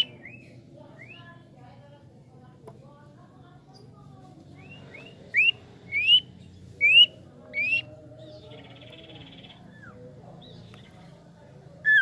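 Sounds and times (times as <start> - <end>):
faint buzzy bird trill: 0.0 - 2.1, 3.3 - 12.0.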